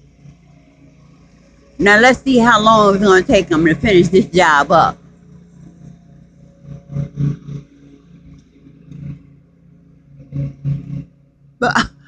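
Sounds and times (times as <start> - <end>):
lawn mowers running: 0.0 - 12.0
leaf blower running: 0.0 - 12.0.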